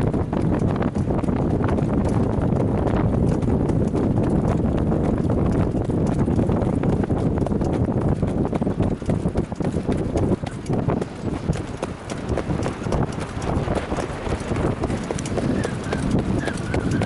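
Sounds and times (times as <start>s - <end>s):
hooves trotting: 0.0s - 17.0s.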